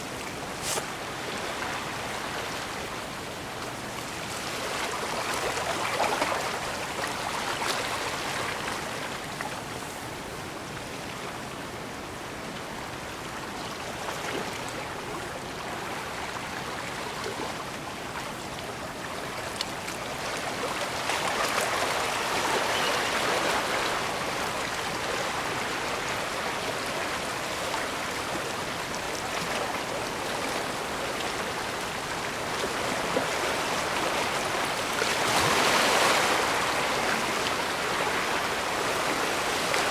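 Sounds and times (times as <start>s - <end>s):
water lapping at the shore: 0.0s - 39.9s.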